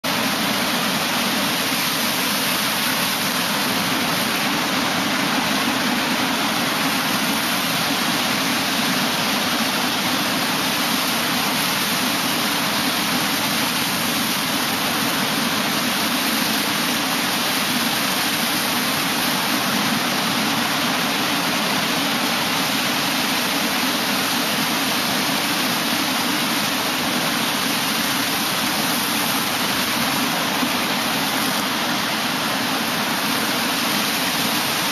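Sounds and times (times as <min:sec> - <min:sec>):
backwash rushing over sand: 0:00.0 - 0:34.9.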